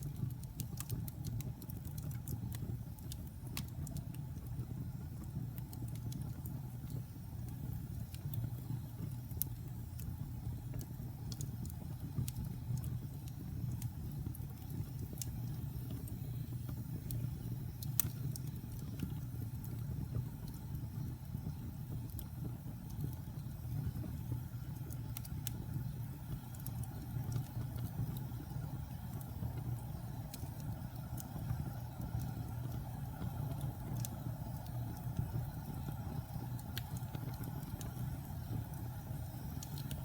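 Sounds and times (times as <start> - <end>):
fire low rumble: 0.0 - 40.0
wood fire crackling and popping: 0.0 - 40.0.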